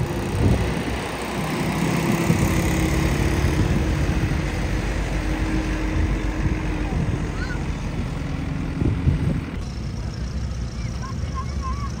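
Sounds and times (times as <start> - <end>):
minibus engine humming: 0.0 - 12.0.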